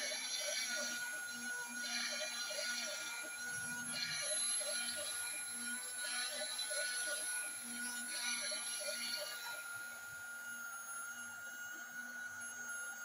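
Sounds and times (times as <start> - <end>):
drill bit cutting into wood: 0.0 - 13.0
router spindle high-pitched whine: 0.0 - 13.0.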